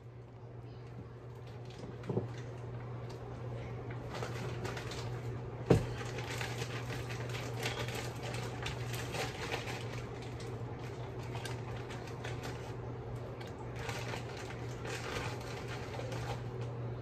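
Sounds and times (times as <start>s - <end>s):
steady low hum: 0.0s - 17.0s
plastic bag crinkling: 1.2s - 17.0s.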